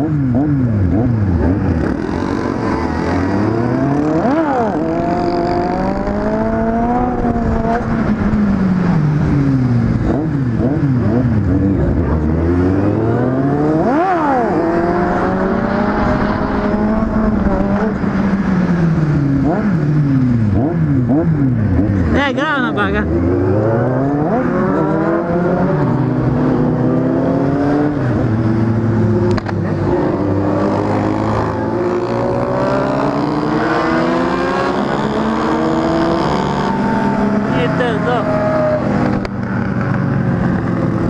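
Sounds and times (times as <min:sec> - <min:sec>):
motorcycle engines revving: 0:00.0 - 0:41.0.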